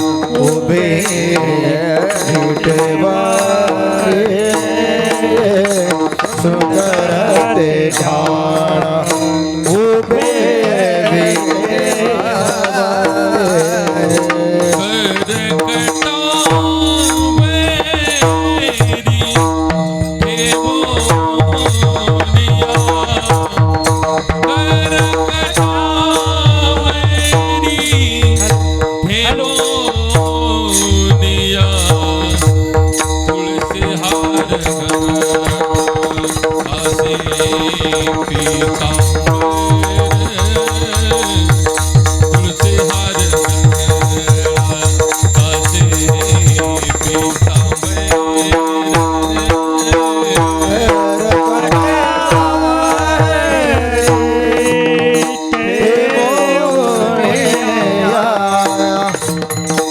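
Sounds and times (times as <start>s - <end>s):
devotional singing over a drone: 0.0s - 19.4s, 20.1s - 59.6s
hand drum beat: 0.0s - 59.9s.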